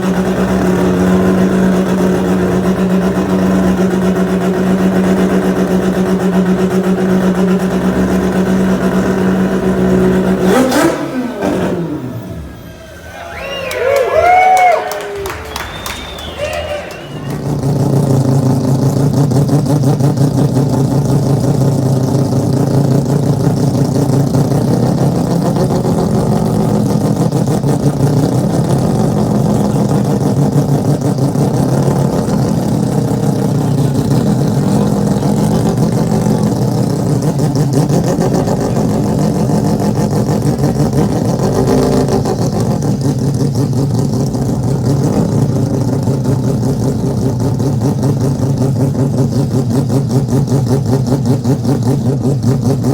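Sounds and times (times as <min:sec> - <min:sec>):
rotary engine idling: 0:00.0 - 0:13.1, 0:17.0 - 0:52.9.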